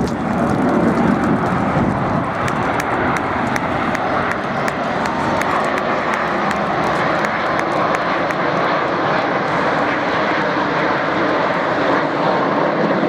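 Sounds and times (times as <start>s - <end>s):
airplane engine flying over: 0.0s - 13.0s.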